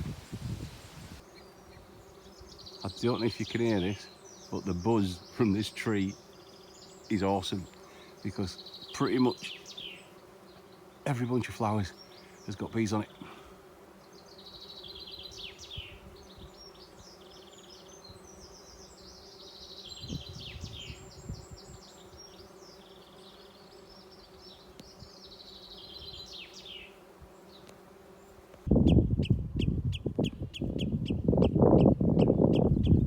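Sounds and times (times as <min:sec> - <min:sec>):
bees humming: 0:00.0 - 0:28.7
birds chirping and trilling: 0:00.1 - 0:33.0.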